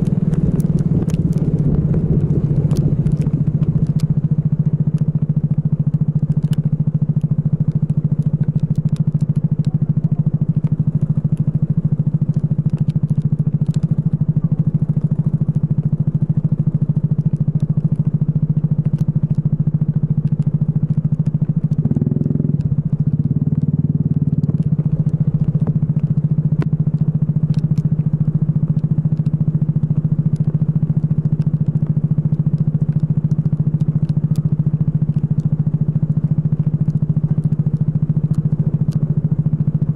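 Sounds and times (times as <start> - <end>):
racing kart engine running: 0.0 - 39.9.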